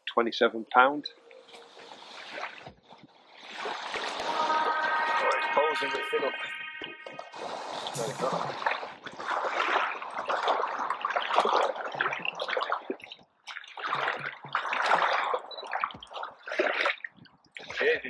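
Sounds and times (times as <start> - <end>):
water splashing and dripping: 0.8 - 6.0, 6.8 - 18.0.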